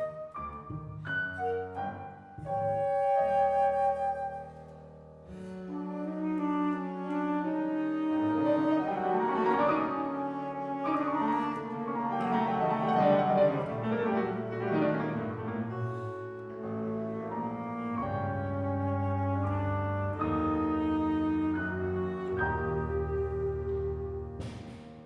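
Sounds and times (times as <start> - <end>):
bowed double bass notes: 0.0 - 25.0
clarinet: 0.0 - 25.0
flute: 0.0 - 25.0
piano: 0.0 - 25.0.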